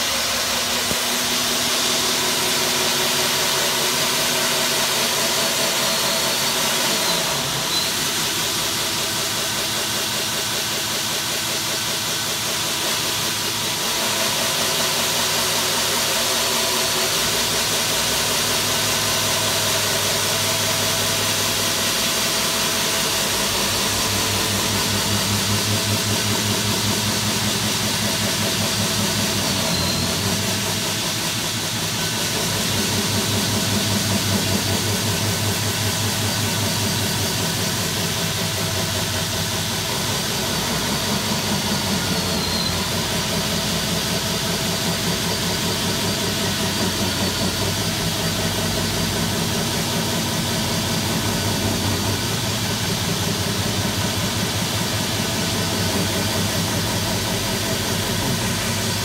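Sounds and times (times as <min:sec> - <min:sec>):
core drill cutting masonry: 0:00.0 - 0:59.0.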